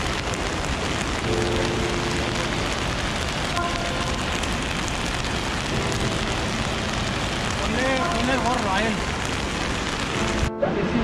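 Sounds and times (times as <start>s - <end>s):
fast-flowing mountain water: 0.0s - 10.5s.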